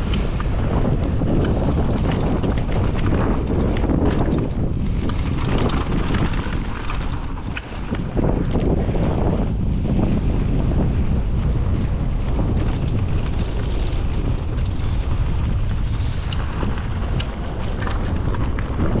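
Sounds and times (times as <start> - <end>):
sharp clicks and rattles: 0.0 - 9.1, 12.3 - 19.0
wind buffeting microphone: 0.0 - 19.0.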